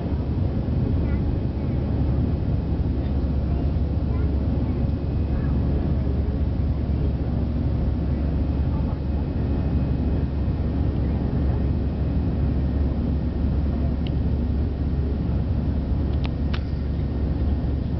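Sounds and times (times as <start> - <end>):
jet cabin engine roar: 0.0 - 17.9.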